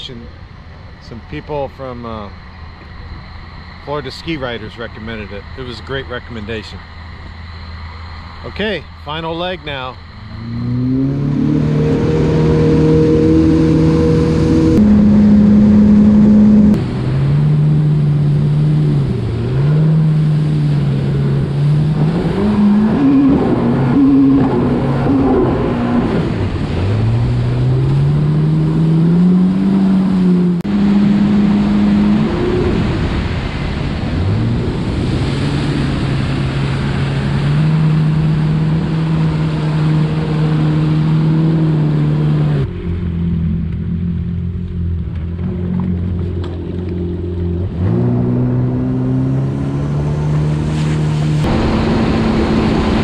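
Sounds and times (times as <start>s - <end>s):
water rushing and spray hiss: 0.0s - 42.6s, 46.0s - 53.0s
jet ski engine running: 0.0s - 53.0s.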